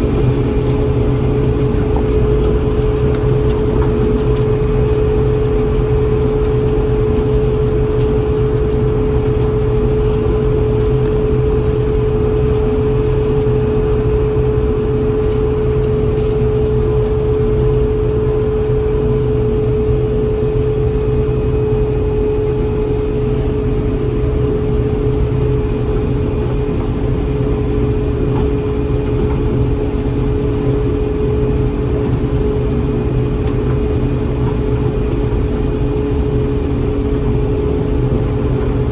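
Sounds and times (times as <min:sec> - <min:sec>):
combine engine drone: 0:00.0 - 0:38.9
constant high whine: 0:00.0 - 0:38.9.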